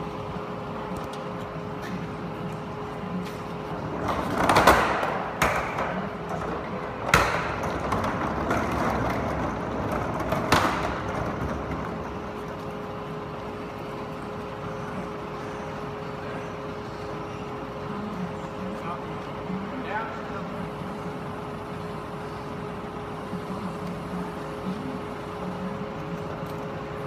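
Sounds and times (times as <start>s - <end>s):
forklift running: 0.0s - 27.0s.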